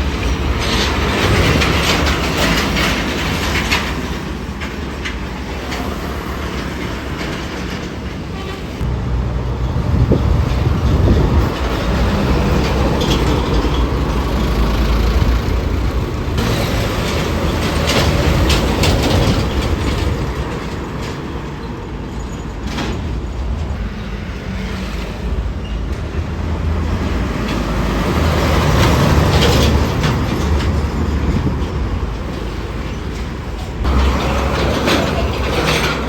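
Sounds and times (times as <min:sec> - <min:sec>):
heavy road traffic passing: 0:00.0 - 0:36.0.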